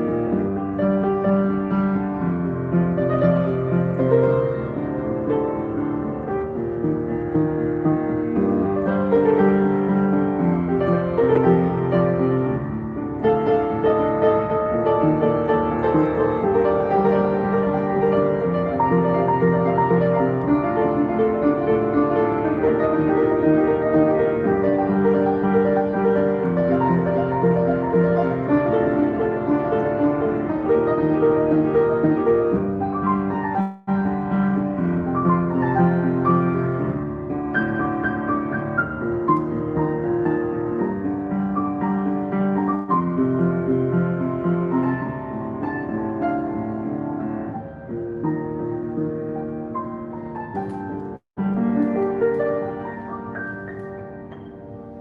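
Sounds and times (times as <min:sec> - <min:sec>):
slow solo piano piece: 0:00.0 - 0:55.0.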